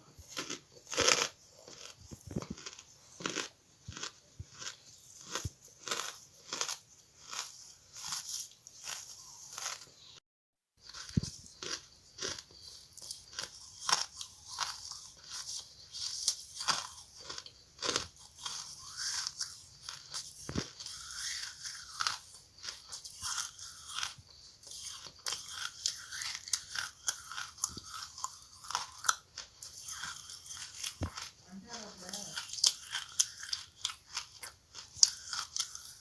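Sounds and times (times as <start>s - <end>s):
person crunching charcoal: 0.2s - 10.1s, 10.8s - 36.0s.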